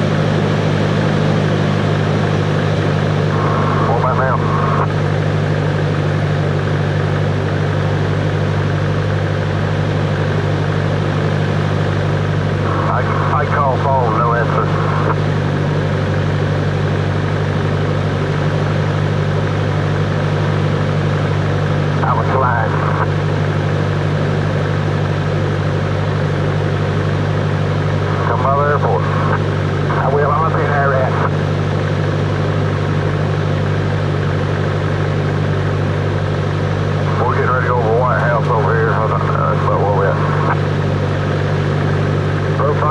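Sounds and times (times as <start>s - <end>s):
propeller plane engine droning: 0.0s - 42.9s.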